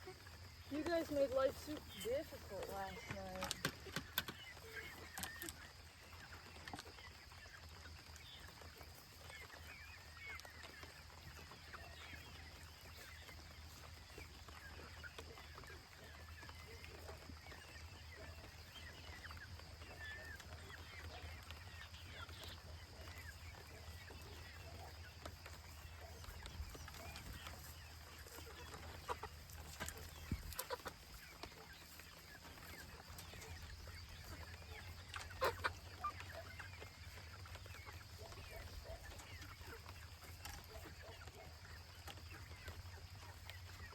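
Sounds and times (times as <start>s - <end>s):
chicks cheeping: 0.0s - 43.9s.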